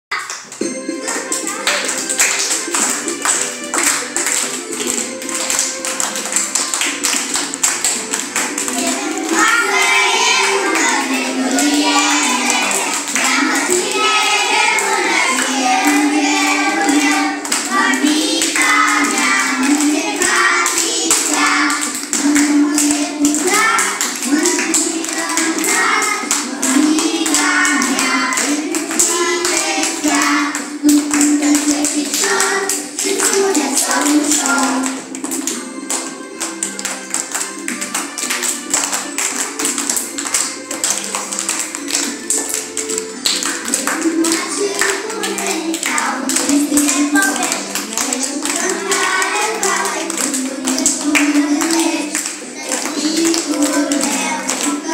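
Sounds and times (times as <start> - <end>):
hands clapping in time: 0.1 - 54.9
children singing: 1.0 - 36.2, 38.4 - 54.9.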